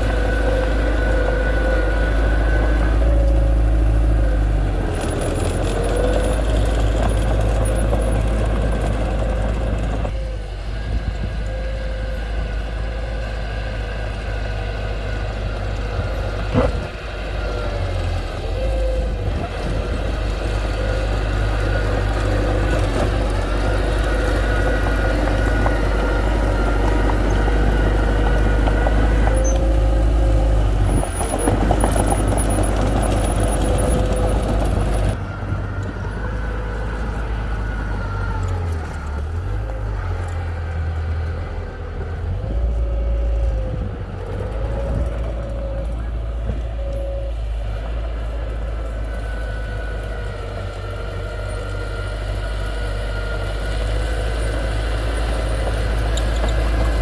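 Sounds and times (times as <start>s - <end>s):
diesel engine rumbling with whine: 0.0s - 57.0s.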